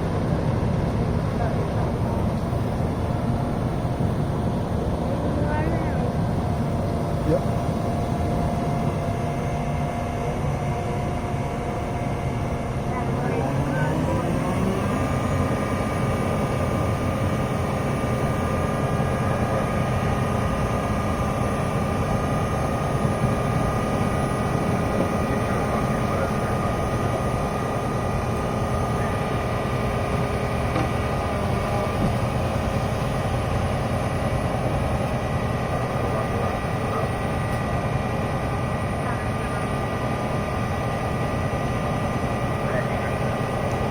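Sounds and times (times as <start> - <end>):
fire truck diesel engine whining: 0.0 - 43.9.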